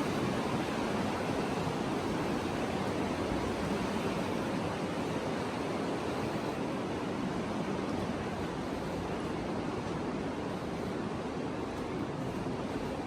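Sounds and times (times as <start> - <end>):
water rushing through cave: 0.0 - 13.0.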